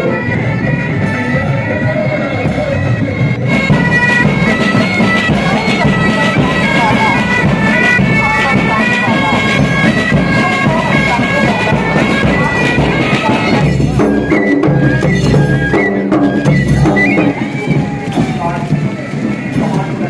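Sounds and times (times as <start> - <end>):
bagpipes playing a tune: 0.0 - 20.0.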